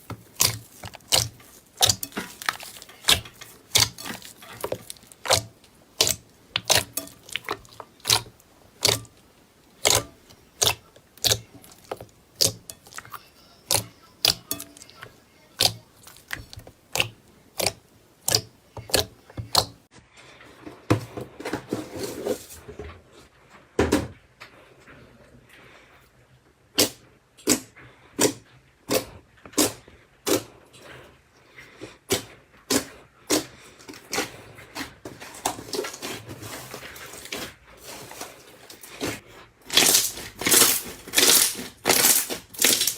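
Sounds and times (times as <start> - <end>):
soft squishing: 0.0 - 19.9, 26.8 - 42.9.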